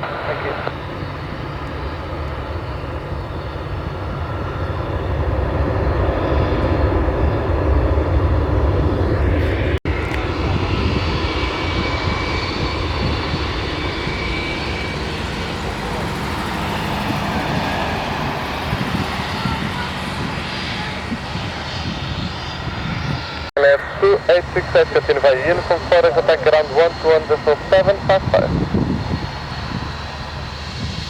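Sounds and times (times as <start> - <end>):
airliner engines rumbling: 0.0 - 31.0.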